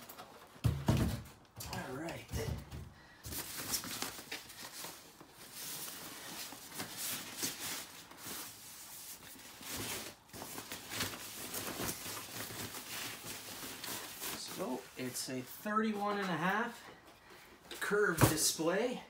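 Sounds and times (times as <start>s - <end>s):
plastic wrap rustling and crinkling: 0.0s - 2.3s, 3.0s - 19.0s.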